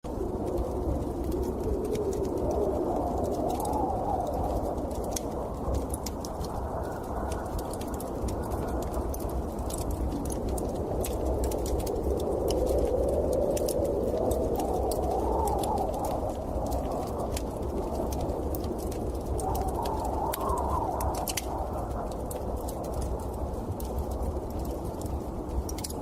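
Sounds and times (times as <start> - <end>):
storm wind howling: 0.0 - 26.0
light ticks: 0.4 - 26.0.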